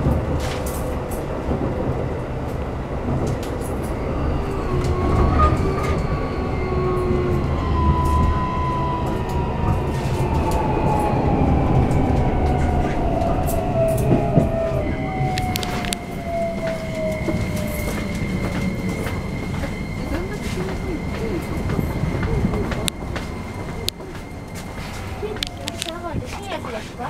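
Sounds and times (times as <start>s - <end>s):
wheels rumbling: 0.0s - 27.0s
train motor whine: 3.5s - 26.3s.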